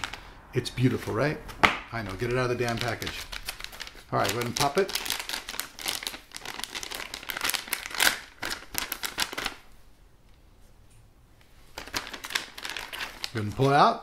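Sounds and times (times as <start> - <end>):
plastic bag crinkling: 0.0 - 9.8, 11.6 - 14.0.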